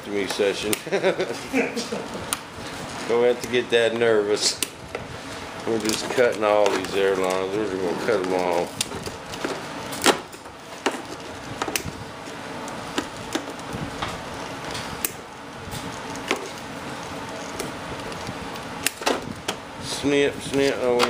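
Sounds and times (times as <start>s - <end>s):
handling tubing and wires: 0.0s - 21.0s.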